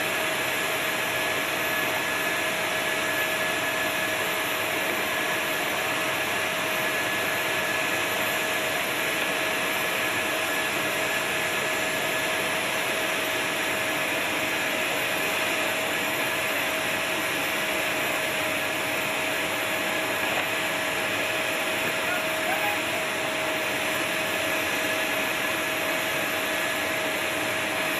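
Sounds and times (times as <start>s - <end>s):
turbine whine with air rush: 0.0s - 27.9s.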